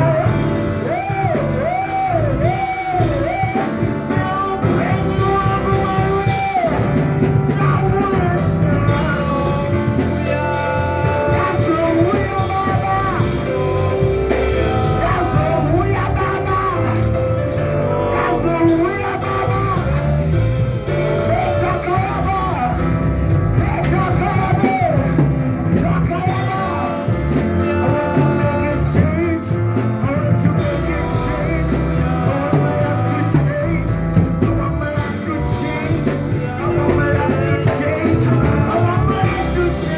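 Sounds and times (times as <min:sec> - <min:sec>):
instrumental backing with steady beat: 0:00.0 - 0:39.9
person singing: 0:00.0 - 0:39.9.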